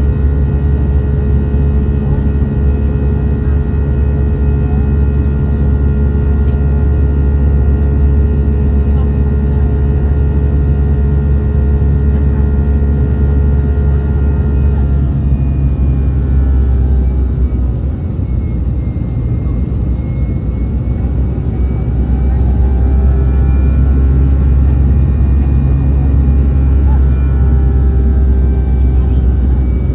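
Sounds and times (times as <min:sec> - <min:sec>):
jet engine roar in cabin: 0:00.0 - 0:29.9
steady whining tones: 0:00.0 - 0:29.9.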